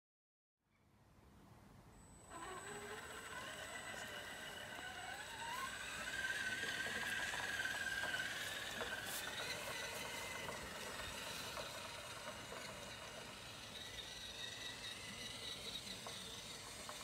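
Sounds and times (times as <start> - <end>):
toy truck electric motor whining: 2.1 - 17.0.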